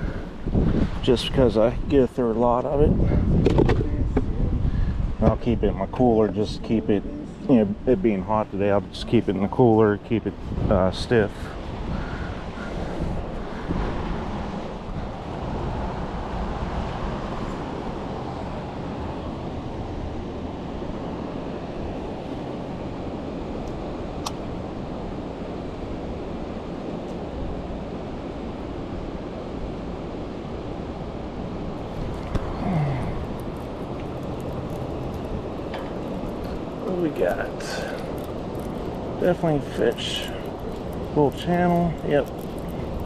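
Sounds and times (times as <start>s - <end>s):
wind on the microphone: 0.0s - 43.0s.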